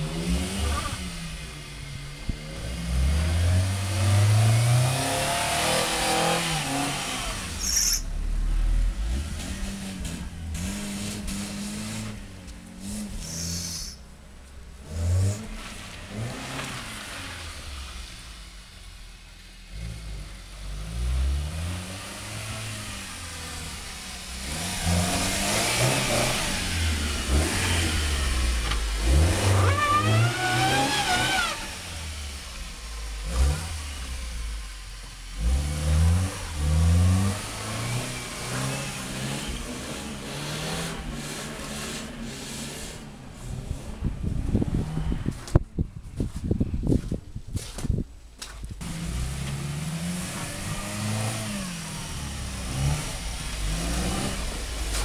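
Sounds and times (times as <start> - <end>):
car engine revving: 0.0 - 45.6, 48.8 - 55.0.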